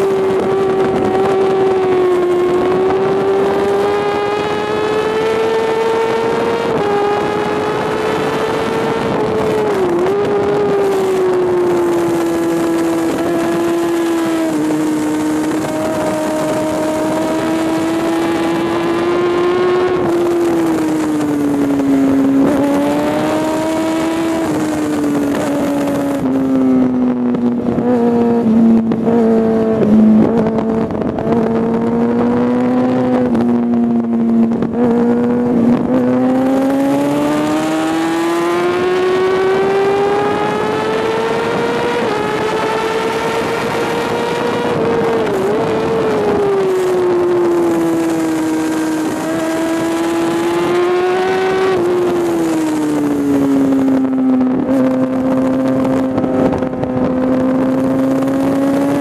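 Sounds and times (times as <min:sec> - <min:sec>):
motorcycle engine revving: 0:00.0 - 0:59.0
wind rushing over microphone: 0:00.0 - 0:59.0.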